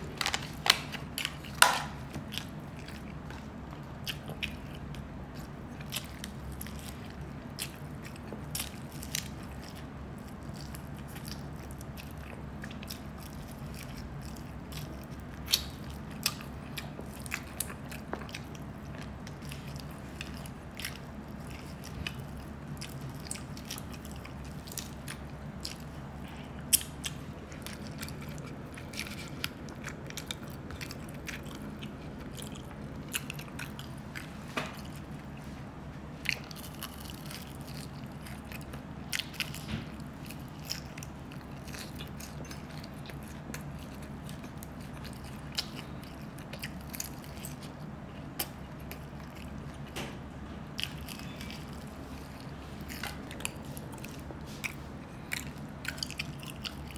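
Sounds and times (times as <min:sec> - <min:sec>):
person chewing and biting food: 0:00.0 - 0:56.9
steady low hum: 0:00.0 - 0:56.9.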